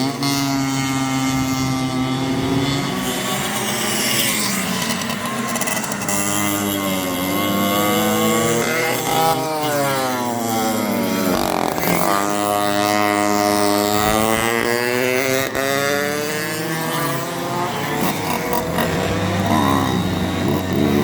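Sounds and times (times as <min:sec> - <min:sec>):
go-kart engine running: 0:00.0 - 0:21.0.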